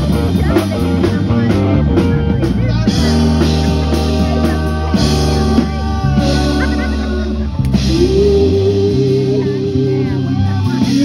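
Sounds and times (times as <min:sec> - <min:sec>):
drum kit: 0:00.0 - 0:11.0
electric guitar: 0:00.0 - 0:11.0
keyboard: 0:00.0 - 0:11.0.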